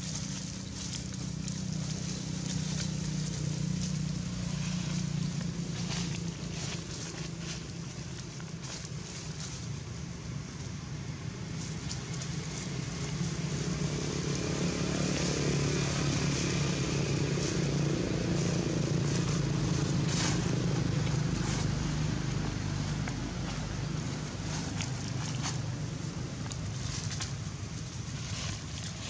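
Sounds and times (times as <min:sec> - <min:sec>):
dry leaves crackling: 0:00.0 - 0:29.0
vehicle engine humming: 0:00.0 - 0:29.0.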